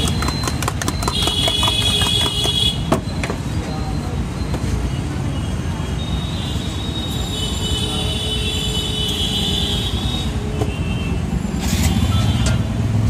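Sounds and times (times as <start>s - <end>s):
road traffic rumbling: 0.0s - 13.0s.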